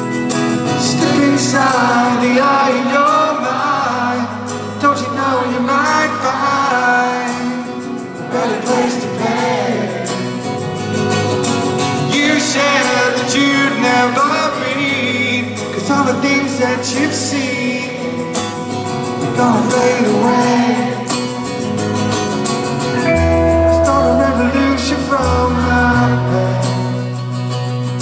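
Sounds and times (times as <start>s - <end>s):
live rock band music: 0.0s - 28.0s
person singing: 0.6s - 10.4s, 12.0s - 18.4s, 19.0s - 21.6s, 23.0s - 27.4s.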